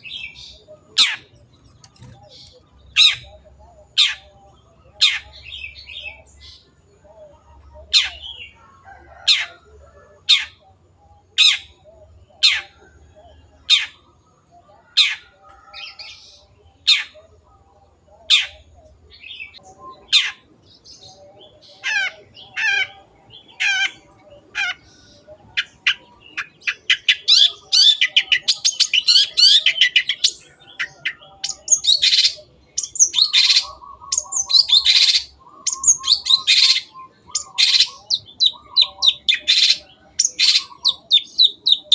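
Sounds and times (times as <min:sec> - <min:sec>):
shrike calling: 0:00.0 - 0:41.9.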